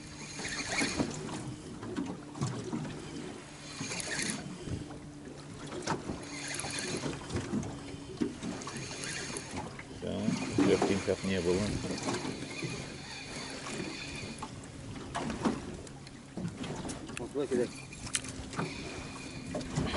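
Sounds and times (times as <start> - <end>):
waves splashing against metal hull: 0.0 - 19.9.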